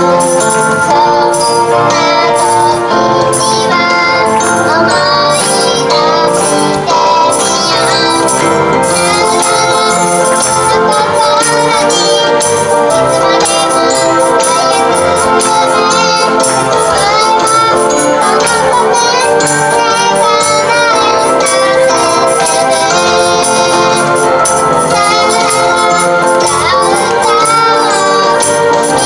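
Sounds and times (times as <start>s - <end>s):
girl singing a pop song: 0.0s - 29.0s
recorded backing track: 0.0s - 29.0s.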